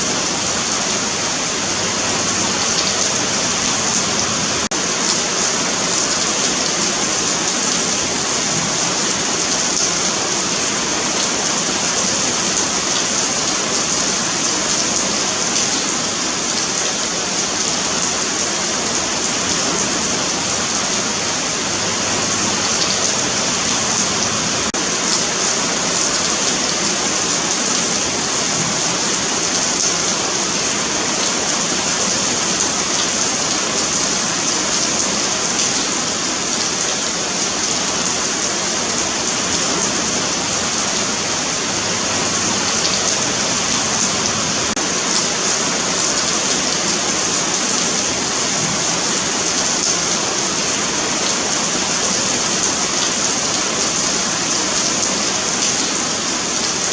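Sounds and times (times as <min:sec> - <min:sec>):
rain on a sidewalk: 0:00.0 - 0:56.9.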